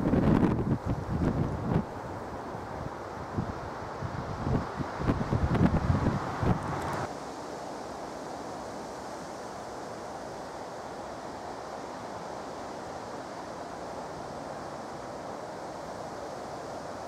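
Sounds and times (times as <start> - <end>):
rushing wind: 0.0 - 17.0.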